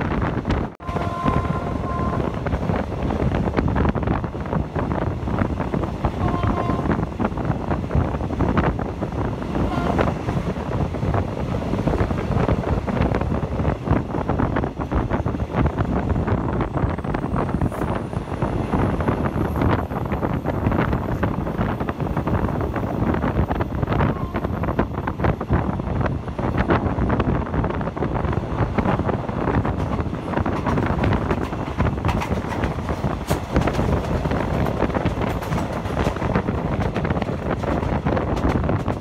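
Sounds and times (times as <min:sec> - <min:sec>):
train wheels rumbling on rails: 0:00.0 - 0:39.0
wind buffeting microphone: 0:00.0 - 0:39.0.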